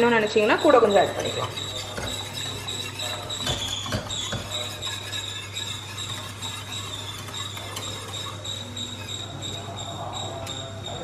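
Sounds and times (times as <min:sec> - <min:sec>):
whisk clinking against metal pan: 0:00.0 - 0:11.0.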